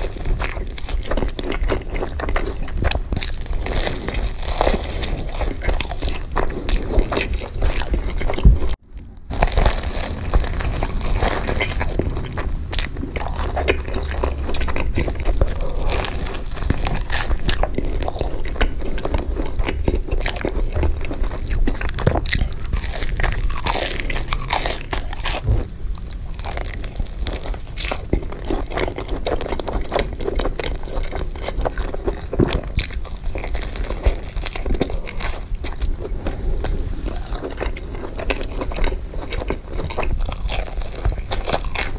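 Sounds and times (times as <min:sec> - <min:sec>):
person crunching and chewing food: 0:00.0 - 0:41.9.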